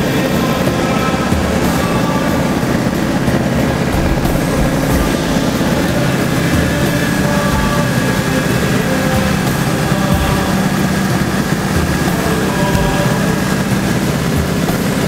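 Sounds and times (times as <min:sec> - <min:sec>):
airplane piston engine and propeller: 0:00.0 - 0:15.0.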